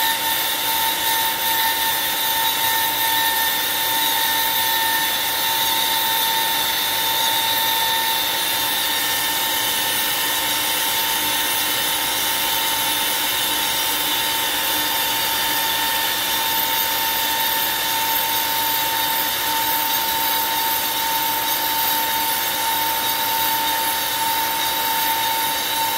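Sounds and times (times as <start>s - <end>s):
router spindle whine: 0.0s - 25.9s.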